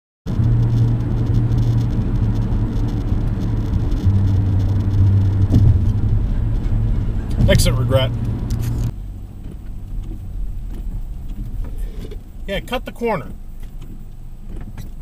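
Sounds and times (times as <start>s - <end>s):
car engine and road drone: 0.3s - 15.0s.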